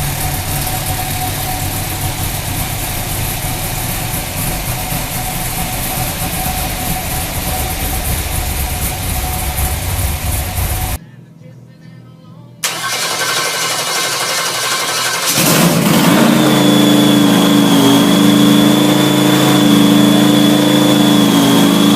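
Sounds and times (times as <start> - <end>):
engine idling: 0.0 - 11.0, 12.6 - 21.9.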